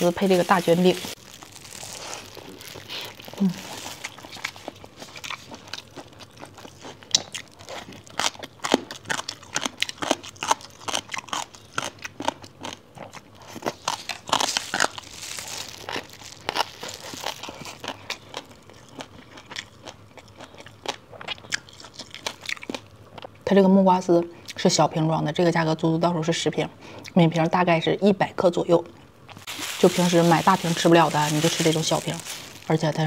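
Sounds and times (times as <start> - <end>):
crunchy food chewing: 0.0 - 23.4, 29.3 - 33.0.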